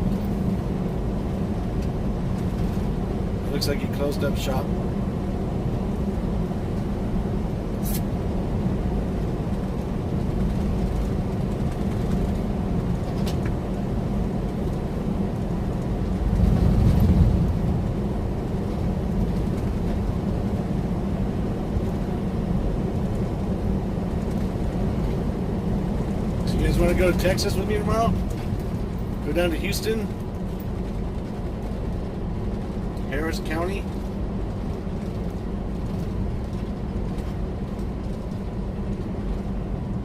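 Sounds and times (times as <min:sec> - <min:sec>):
truck engine and road drone: 0:00.0 - 0:40.0.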